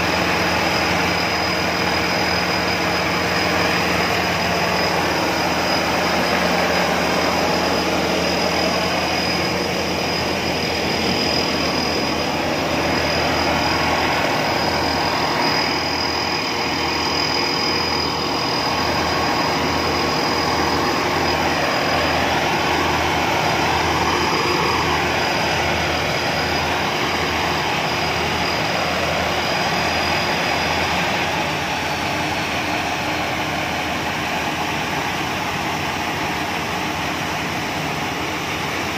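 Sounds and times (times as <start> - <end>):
diesel engine running steadily: 0.0 - 38.9
thin high whine: 0.0 - 38.9.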